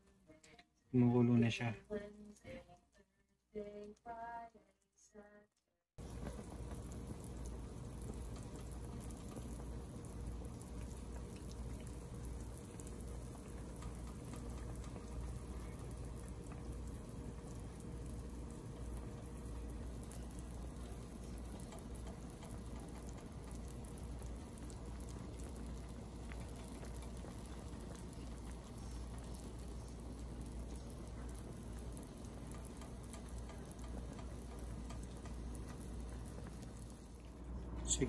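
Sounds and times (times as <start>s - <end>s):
braising liquid bubbling in pan: 6.0s - 38.0s.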